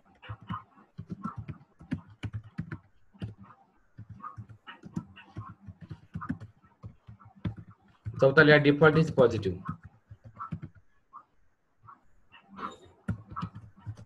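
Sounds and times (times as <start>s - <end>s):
typing on keyboard: 0.2s - 10.8s, 13.0s - 14.0s.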